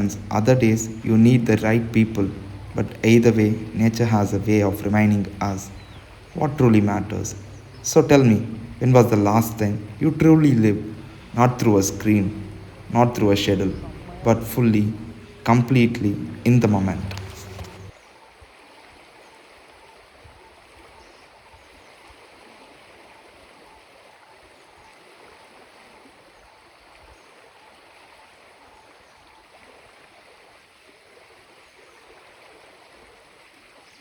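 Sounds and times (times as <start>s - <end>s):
stream flowing: 0.0s - 34.0s.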